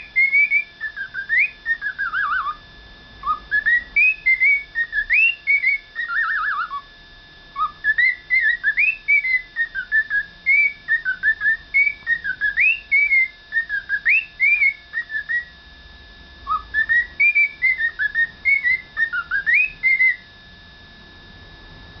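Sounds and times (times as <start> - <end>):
cockatiel whistling: 0.0 - 2.6, 3.2 - 6.9, 7.5 - 15.6, 16.4 - 20.3.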